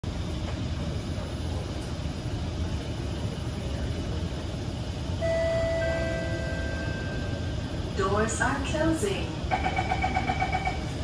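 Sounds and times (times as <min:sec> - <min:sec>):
train standing with low rumble: 0:00.0 - 0:11.0.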